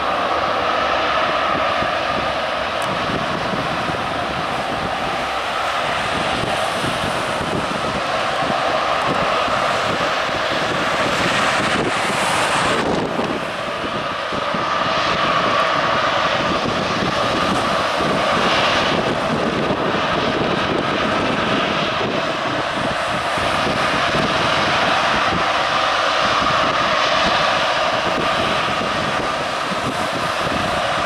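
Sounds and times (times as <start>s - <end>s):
jet engines idling: 0.0s - 31.0s.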